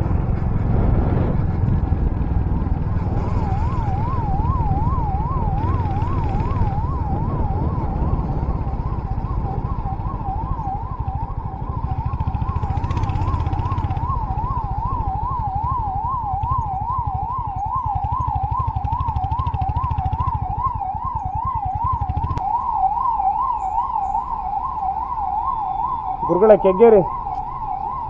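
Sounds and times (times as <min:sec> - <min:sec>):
low engine rumble: 0:00.0 - 0:28.0
siren yelping: 0:01.9 - 0:28.0.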